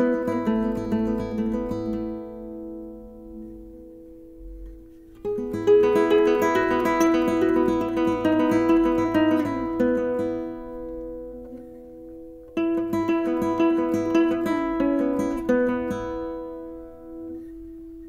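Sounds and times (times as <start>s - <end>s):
plucked-string instrumental music: 0.0s - 18.0s.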